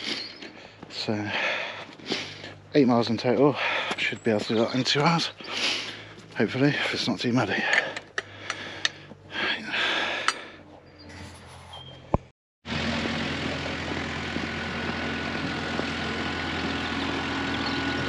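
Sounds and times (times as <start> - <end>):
engine drone with low hum: 0.0 - 18.0.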